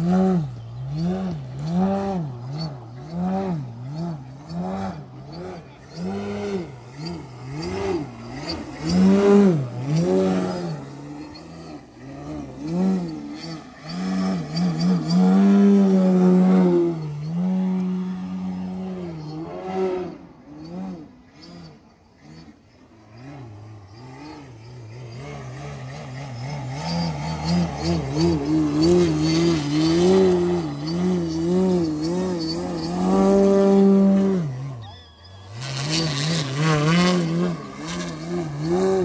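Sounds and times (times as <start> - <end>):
model plane propeller buzzing: 0.0 - 39.0.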